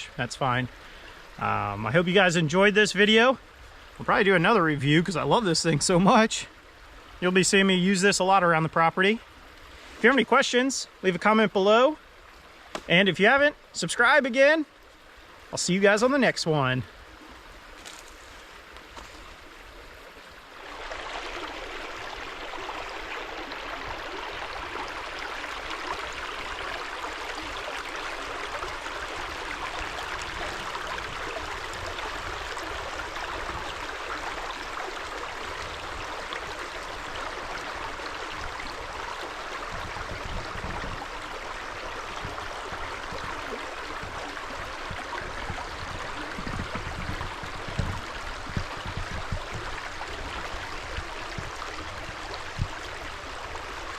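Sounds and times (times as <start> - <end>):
creek water rushing: 0.0 - 53.9.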